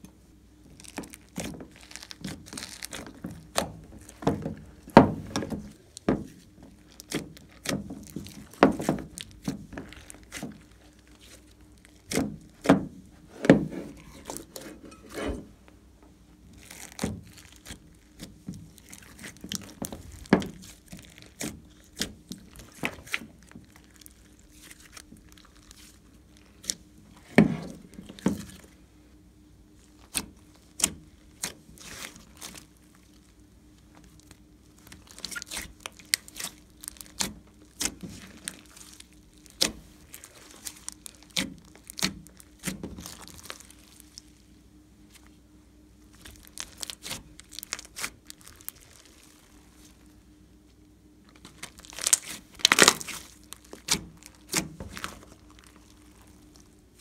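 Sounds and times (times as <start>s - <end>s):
slime squelching by hand: 0.6s - 15.4s, 16.3s - 28.9s, 29.6s - 57.0s.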